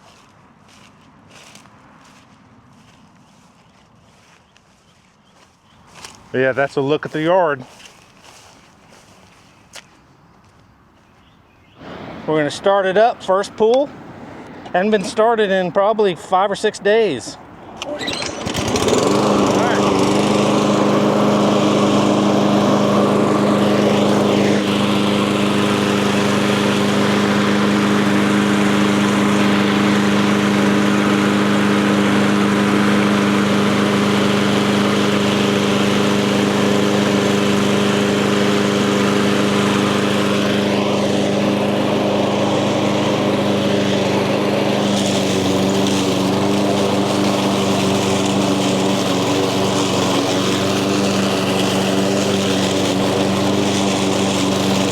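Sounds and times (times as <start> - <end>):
lawn mower engine cutting grass: 0.0 - 9.8, 11.8 - 54.9.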